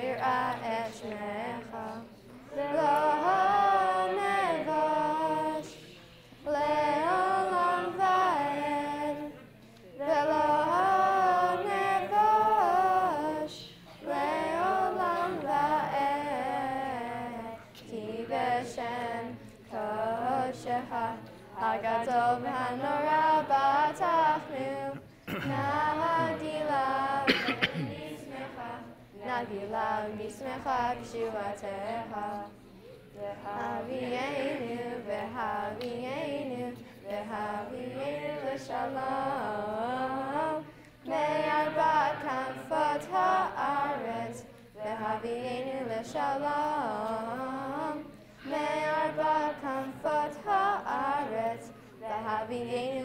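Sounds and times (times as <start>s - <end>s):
girls singing unaccompanied: 0.0s - 53.0s.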